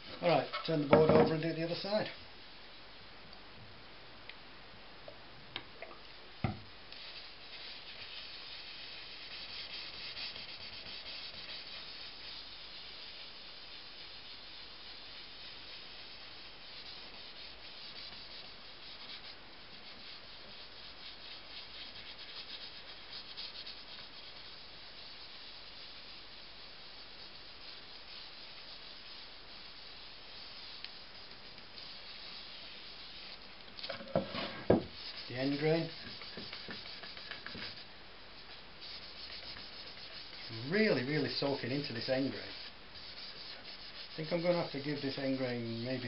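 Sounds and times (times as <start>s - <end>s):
paper towel swishing on wood: 7.0s - 33.5s, 34.2s - 46.0s.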